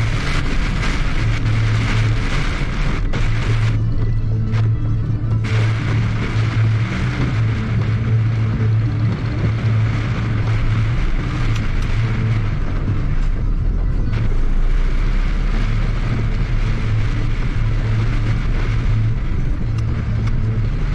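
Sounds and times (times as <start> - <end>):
heavy rain and wet tyres hiss: 0.0 - 20.9
low engine and road drone: 0.0 - 20.9.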